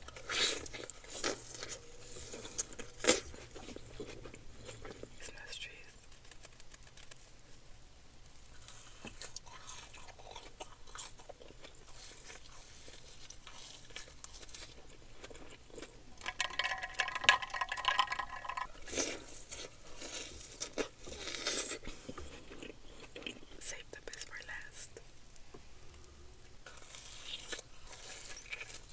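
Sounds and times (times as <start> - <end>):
snack crunching and chewing: 0.0 - 7.4, 8.4 - 24.8, 26.0 - 28.9.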